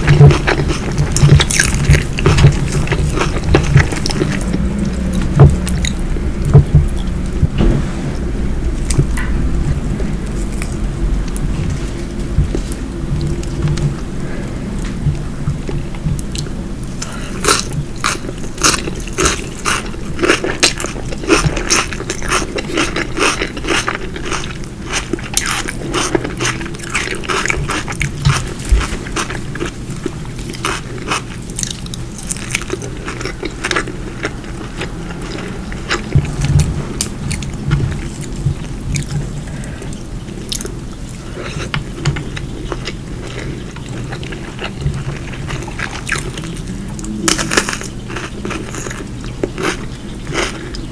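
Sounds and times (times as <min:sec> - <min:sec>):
chewing and biting food: 0:00.0 - 0:07.5, 0:08.8 - 0:50.9.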